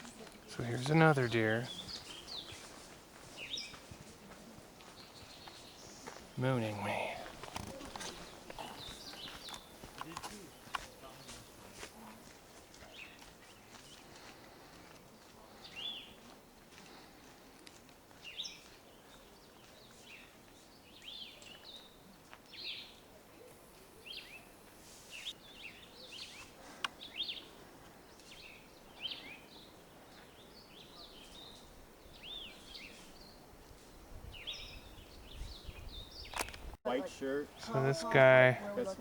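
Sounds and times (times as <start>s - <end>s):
small birds chirping: 0.1s - 12.2s, 12.8s - 16.3s, 18.1s - 39.0s.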